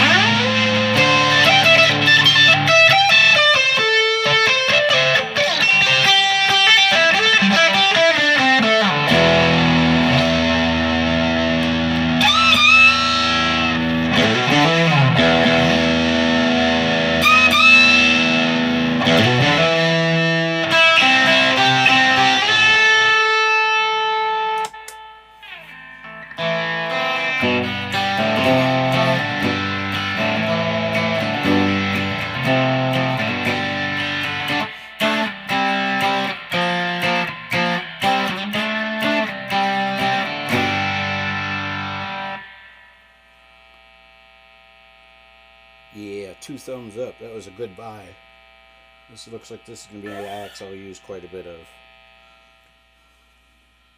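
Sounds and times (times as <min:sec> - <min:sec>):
overdriven electric guitar: 0:00.0 - 0:53.2.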